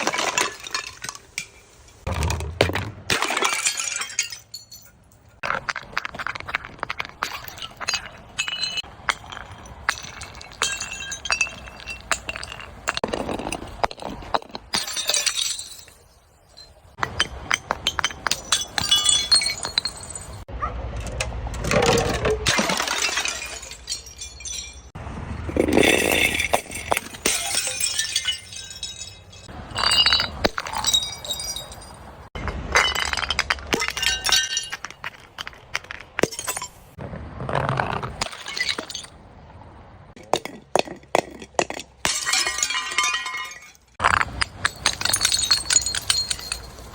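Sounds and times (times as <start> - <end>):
glass shards clinking: 0.0 - 2.1, 3.1 - 20.5, 21.9 - 37.0, 38.2 - 39.2, 41.6 - 46.9
glass breaking and crunching: 0.0 - 20.5, 21.9 - 37.0, 38.0 - 39.2, 40.3 - 46.9.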